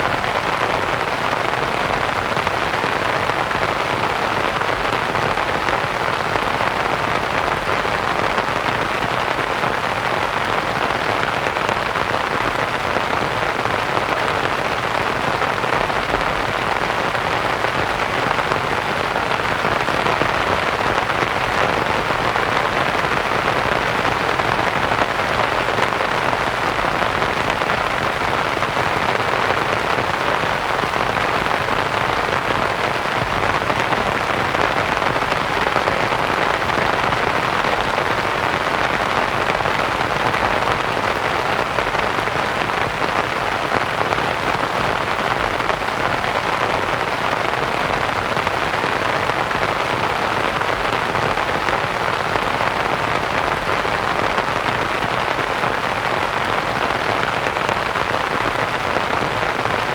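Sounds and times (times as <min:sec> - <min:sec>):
rain on a canvas tent: 0:00.0 - 0:59.9
white-noise hiss: 0:00.0 - 0:59.9.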